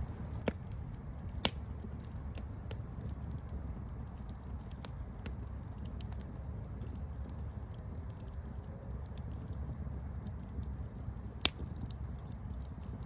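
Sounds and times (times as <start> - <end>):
campfire crackling: 0.0 - 13.0
fire pops and snaps: 0.0 - 13.0.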